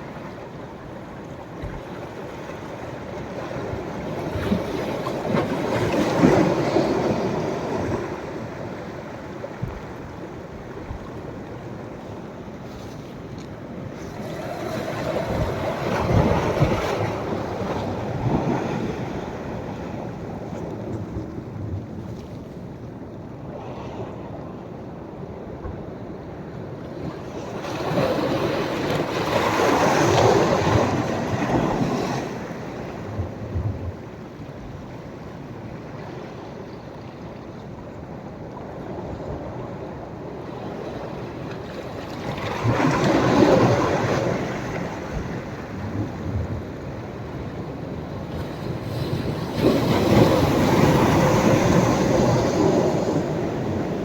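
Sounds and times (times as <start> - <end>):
waves breaking on beach: 0.0 - 21.7, 26.8 - 38.0, 38.6 - 54.0.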